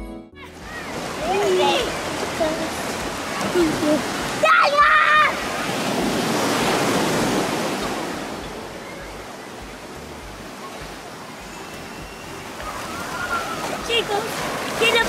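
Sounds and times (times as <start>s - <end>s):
small waves washing on sand: 0.5s - 15.0s.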